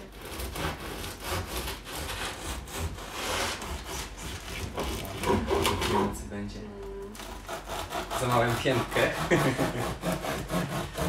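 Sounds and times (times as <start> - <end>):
bread knife sawing crust: 0.0 - 6.2, 7.2 - 11.0.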